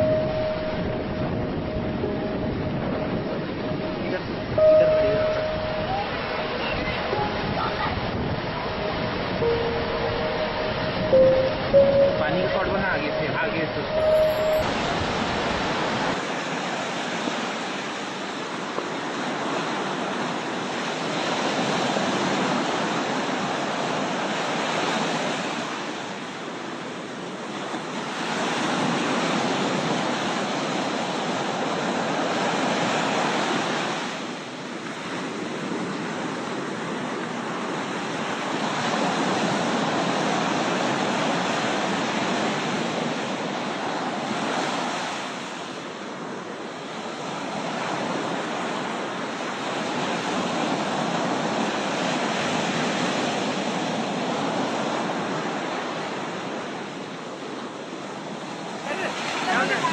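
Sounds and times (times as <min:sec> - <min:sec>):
rush of water: 0:04.0 - 0:59.9.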